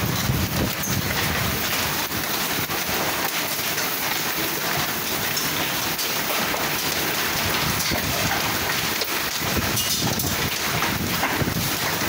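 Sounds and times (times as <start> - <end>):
hailstones clicking: 0.0 - 12.0
heavy hail and rain hiss: 0.0 - 12.0.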